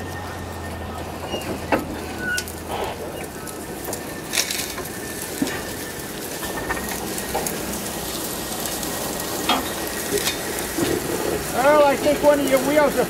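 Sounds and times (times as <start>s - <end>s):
train wheels grinding on rails: 0.0s - 13.0s.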